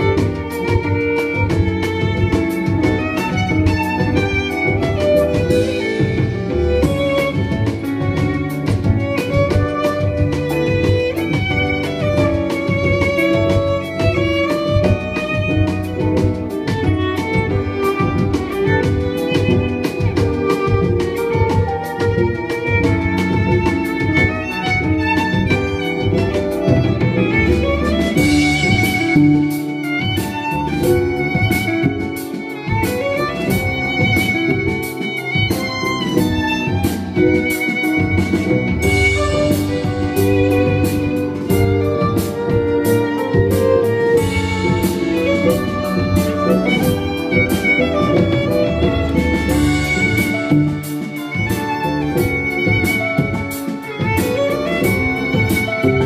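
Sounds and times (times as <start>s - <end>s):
bowed violin melody: 0.0s - 56.0s
plucked double bass: 0.0s - 56.0s.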